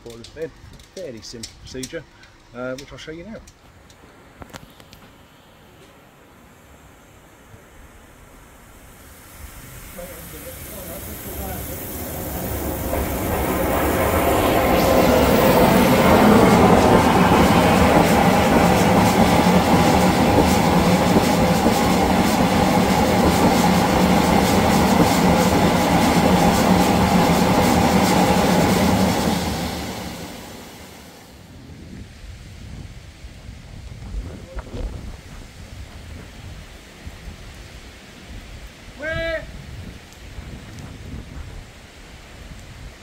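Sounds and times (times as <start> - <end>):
boiler water and steam rushing: 2.8 - 43.0.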